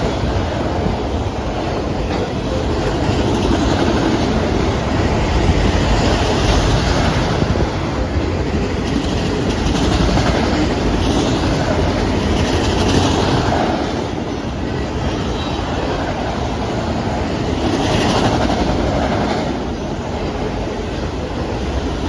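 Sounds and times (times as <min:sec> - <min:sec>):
freight cars rumbling on rails: 0:00.0 - 0:22.0.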